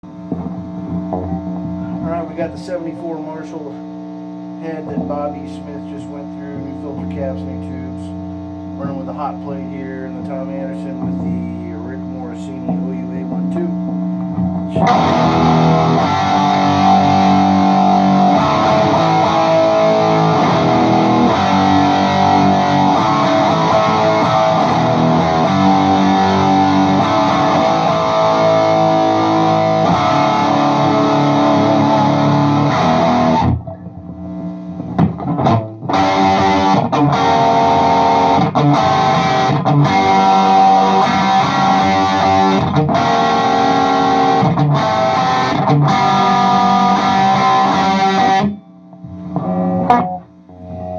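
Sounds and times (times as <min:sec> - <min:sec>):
distorted electric guitar: 0:00.0 - 0:50.9.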